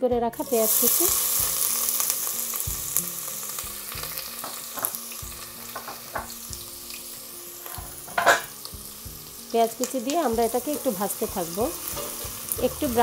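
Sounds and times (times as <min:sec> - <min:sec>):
onions sizzling in hot oil: 0:00.3 - 0:13.0.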